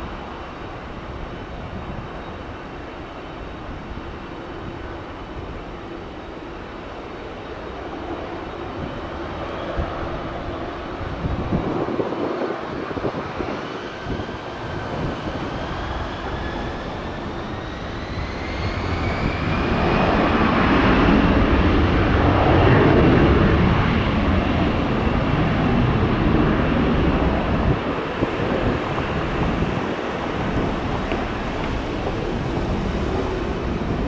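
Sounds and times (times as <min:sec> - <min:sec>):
jet noise roaring: 0:00.0 - 0:34.0
jet engines spooling up: 0:02.0 - 0:34.0.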